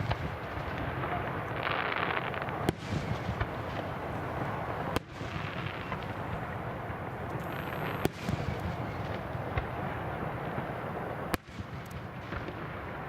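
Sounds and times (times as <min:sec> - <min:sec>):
fireworks crackling: 0:00.0 - 0:13.0
fireworks sharp bangs: 0:00.0 - 0:13.0.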